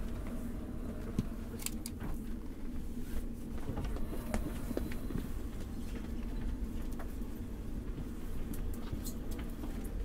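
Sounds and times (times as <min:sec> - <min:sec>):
train interior rumble: 0:00.0 - 0:10.0.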